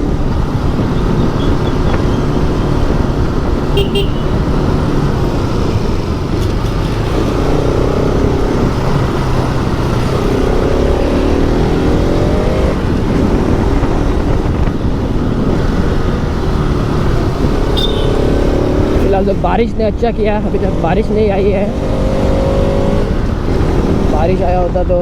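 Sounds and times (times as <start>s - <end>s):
motorcycle engine accelerating: 0.0s - 19.5s, 20.2s - 24.4s
surrounding traffic: 0.0s - 25.0s
wind noise on microphone: 0.0s - 25.0s.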